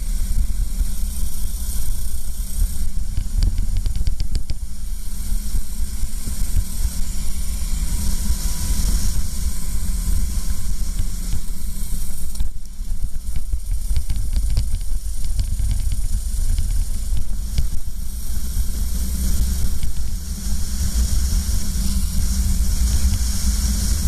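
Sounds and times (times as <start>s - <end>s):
kart engine drone: 0.0s - 24.0s
wind rushing over microphone: 0.0s - 24.0s.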